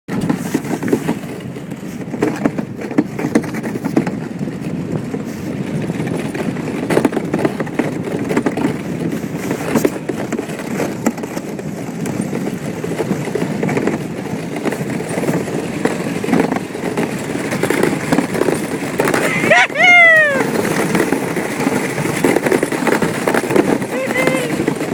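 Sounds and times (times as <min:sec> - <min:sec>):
iceboat runners rumbling over ice: 0:00.1 - 0:24.9.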